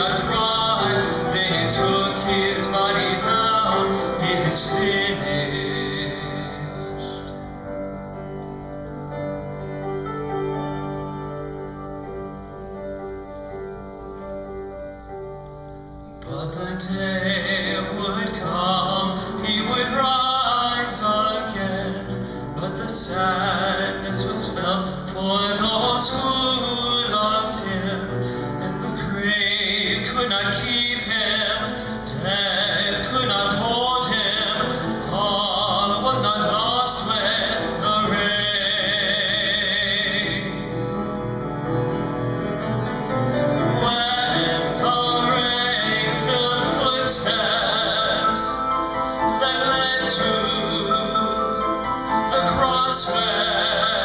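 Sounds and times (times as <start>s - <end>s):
instrumental accompaniment: 0.0s - 54.0s.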